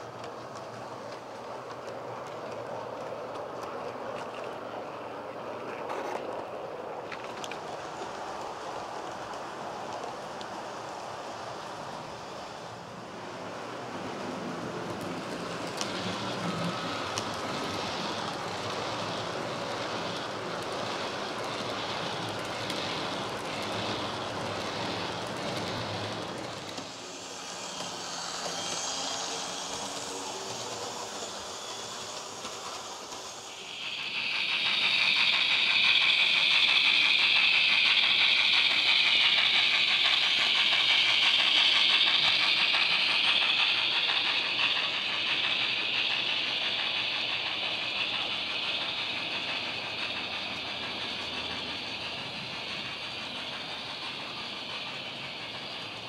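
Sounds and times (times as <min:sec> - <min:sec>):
model train running: 0:00.0 - 0:56.0
loud steady hiss: 0:07.6 - 0:56.0.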